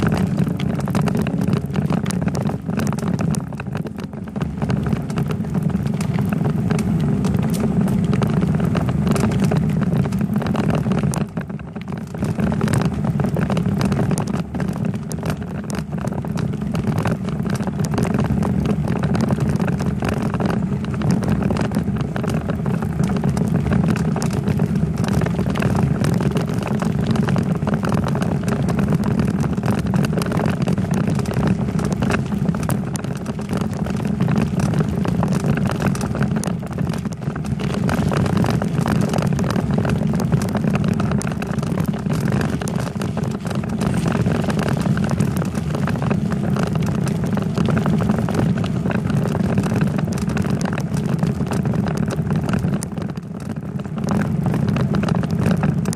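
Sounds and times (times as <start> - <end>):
bicycle rattles and knocks: 0.0 - 48.9
wind noise: 0.0 - 55.9.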